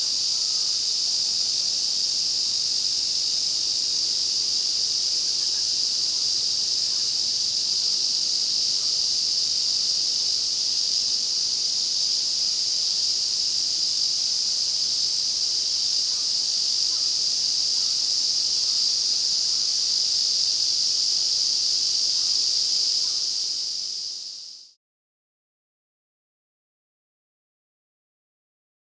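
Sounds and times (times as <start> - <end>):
cicadas buzzing: 0.0 - 24.8.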